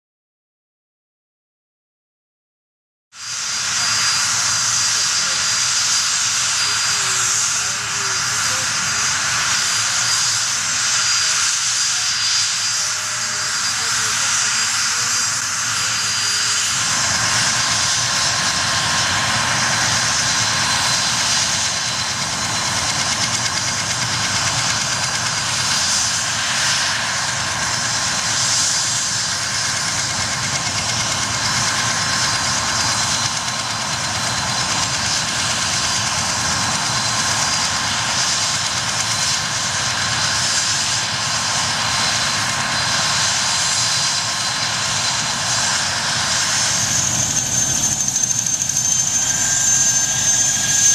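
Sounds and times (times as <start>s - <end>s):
helicopter turbine whine: 3.2s - 50.9s
rushing rotor noise: 3.2s - 50.9s.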